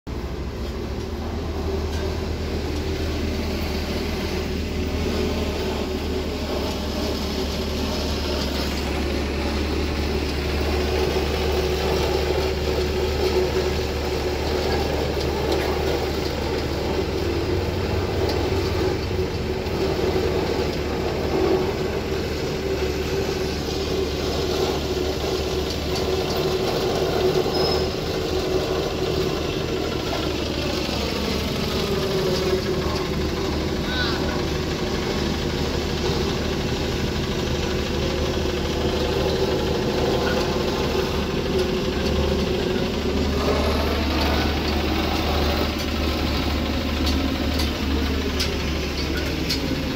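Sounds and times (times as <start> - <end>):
road roller engine droning: 0.1 - 49.9.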